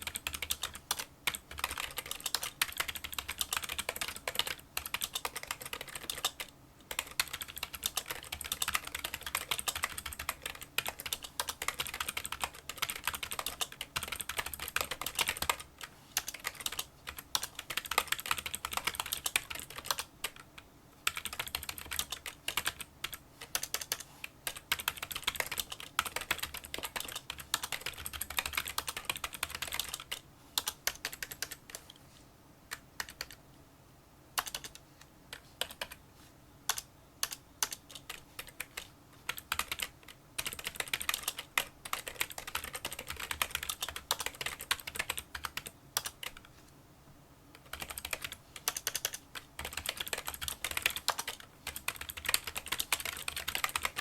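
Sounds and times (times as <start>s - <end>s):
typing on a keyboard: 0.0s - 31.9s, 32.7s - 33.4s, 34.4s - 36.0s, 36.7s - 46.5s, 47.6s - 54.0s.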